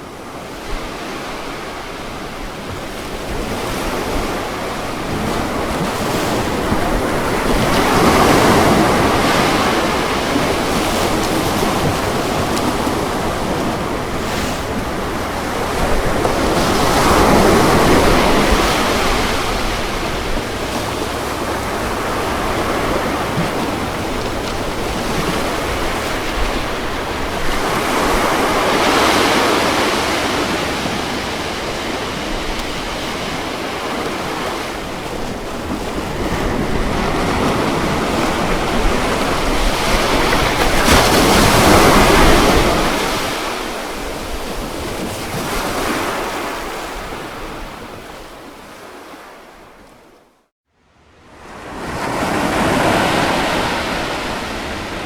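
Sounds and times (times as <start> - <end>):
ocean waves breaking: 0.0 - 50.4, 51.0 - 55.0.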